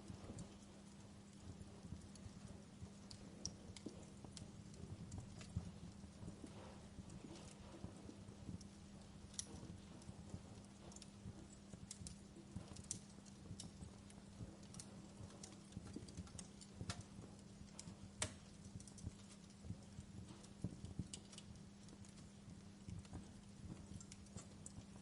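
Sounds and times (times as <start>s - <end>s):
faint low hum: 0.0s - 25.0s
soft steady hiss: 0.0s - 25.0s
wood fire crackling: 0.0s - 25.0s.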